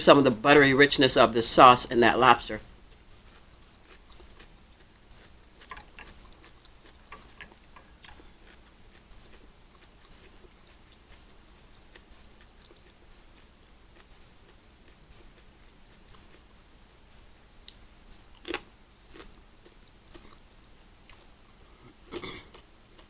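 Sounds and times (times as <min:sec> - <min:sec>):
person chewing food: 0:02.5 - 0:23.0.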